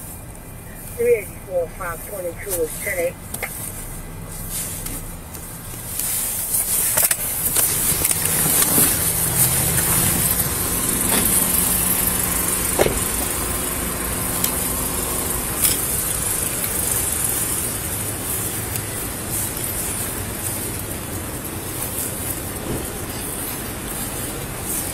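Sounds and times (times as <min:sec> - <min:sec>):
car engine running: 0:00.0 - 0:24.9
microphone hiss and rustling: 0:00.0 - 0:24.9.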